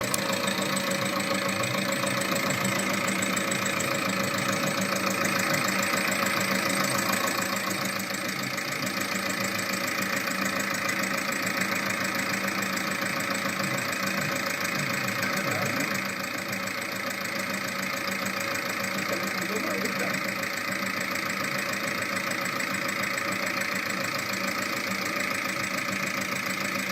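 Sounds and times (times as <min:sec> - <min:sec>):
diesel engine idling: 0:00.0 - 0:26.9
fast regular engine ticking: 0:00.0 - 0:26.9.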